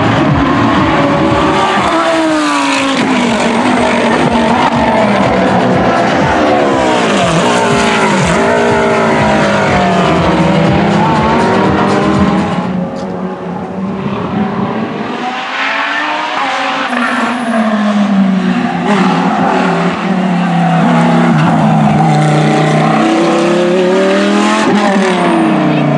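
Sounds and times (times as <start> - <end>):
racing car engine accelerating: 0.0 - 25.9.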